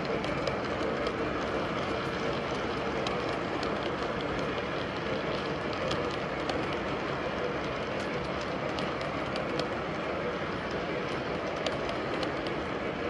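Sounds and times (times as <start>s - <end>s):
model train cars rolling: 0.0s - 13.0s.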